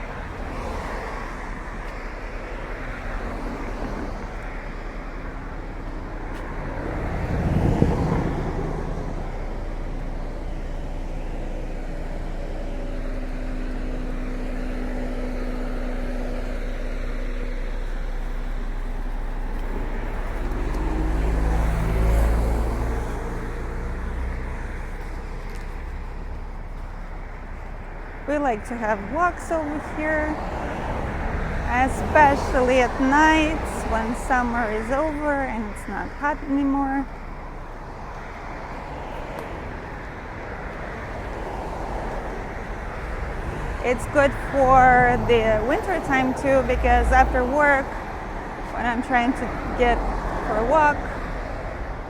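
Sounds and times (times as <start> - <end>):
cars passing: 0.0 - 52.0
steady traffic noise: 0.0 - 52.0
vehicle engine: 0.0 - 52.0.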